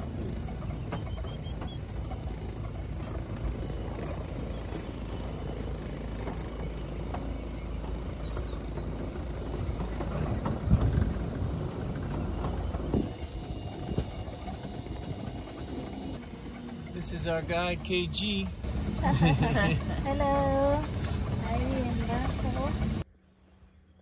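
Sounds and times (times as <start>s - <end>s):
tyres rumbling on sandy track: 0.0s - 23.0s.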